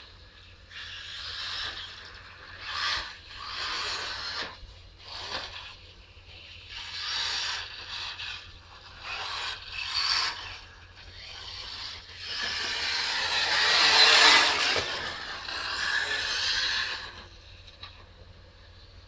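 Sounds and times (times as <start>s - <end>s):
rc cars running: 0.0s - 19.0s.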